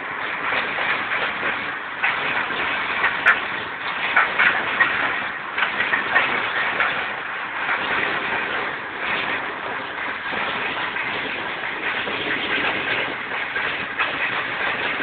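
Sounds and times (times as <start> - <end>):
train running along track: 0.0 - 15.0.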